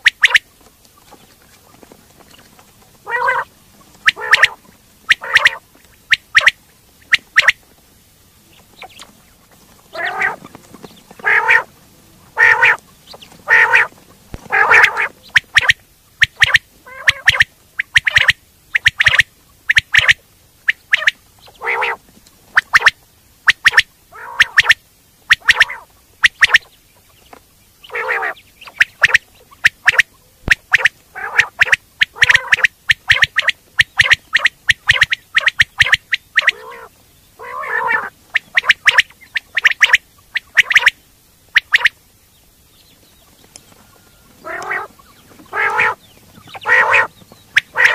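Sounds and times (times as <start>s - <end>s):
quail calling: 0.0s - 7.8s, 8.5s - 42.1s, 43.0s - 47.9s.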